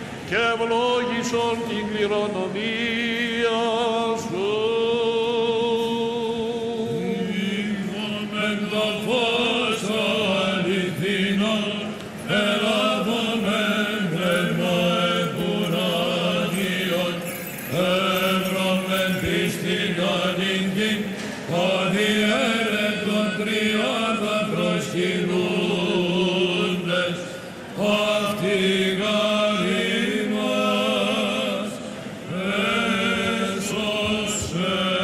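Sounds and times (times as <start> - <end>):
chanted hymn singing: 0.0 - 35.0.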